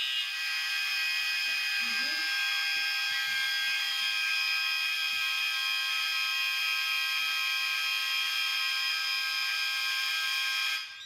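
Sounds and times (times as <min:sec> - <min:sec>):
fire alarm horns sounding: 0:00.0 - 0:11.0.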